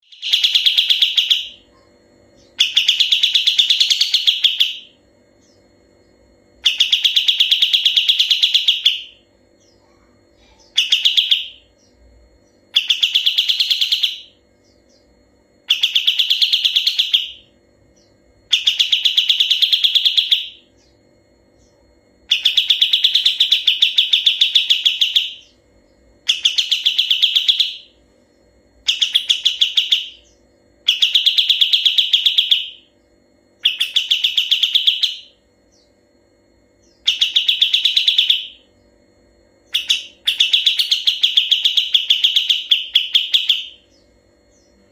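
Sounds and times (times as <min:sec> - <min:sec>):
bird singing rolling trill: 0:00.0 - 0:44.9
faint steady hum: 0:00.0 - 0:44.9.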